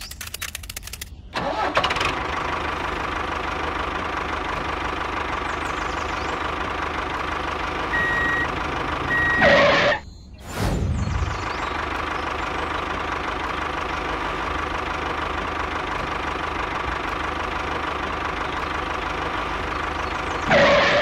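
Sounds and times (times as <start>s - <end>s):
tractor engine running: 0.0s - 10.0s, 10.8s - 21.0s.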